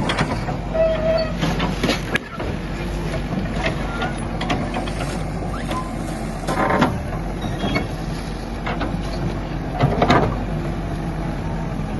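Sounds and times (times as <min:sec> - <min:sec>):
bulldozer diesel engine running: 0:00.0 - 0:11.9.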